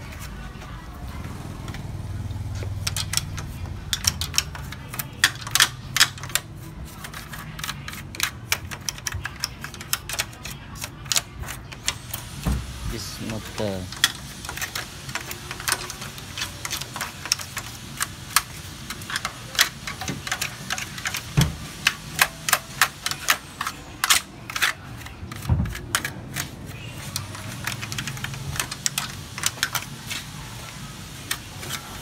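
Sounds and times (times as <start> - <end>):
toothbrush scrubbing on metal: 2.9 - 32.0.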